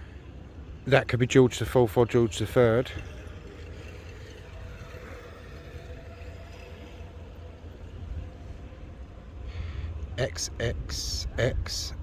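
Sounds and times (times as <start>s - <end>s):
faint hum: 0.0s - 12.0s
low outdoor rumble: 0.0s - 12.0s.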